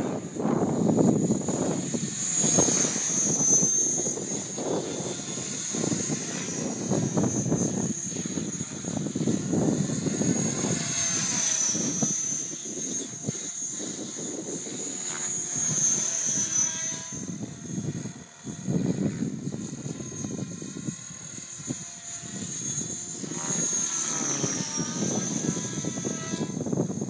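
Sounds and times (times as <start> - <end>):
helicopter motor whine: 0.0 - 27.0
rotor blades churning: 0.0 - 27.0.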